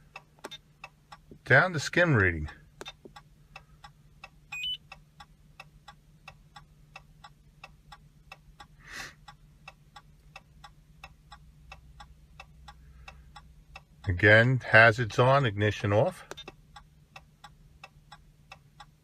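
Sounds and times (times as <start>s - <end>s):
hazard light flasher ticking: 0.0s - 14.2s, 16.2s - 19.0s.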